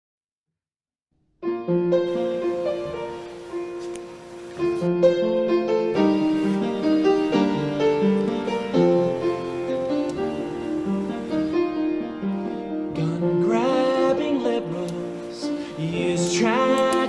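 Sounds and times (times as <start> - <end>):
instrumental keyboard music: 1.4 - 17.0.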